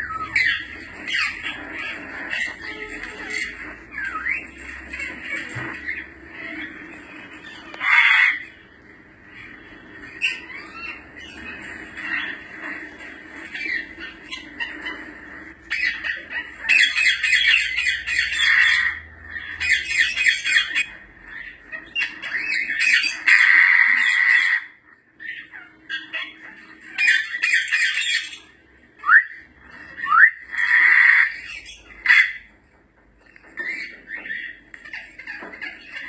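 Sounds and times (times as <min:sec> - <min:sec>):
parrots squawking: 0:00.0 - 0:36.0.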